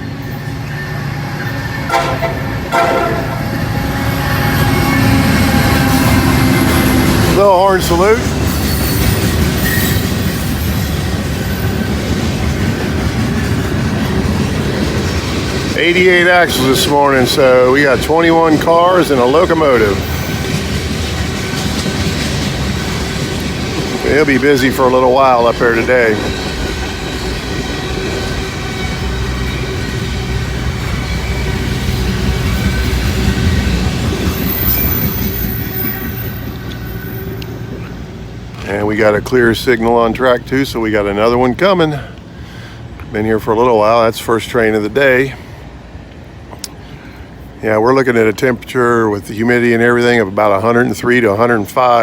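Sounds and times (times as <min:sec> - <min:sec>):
freight train wheels rumbling on rails: 0:00.0 - 0:52.0.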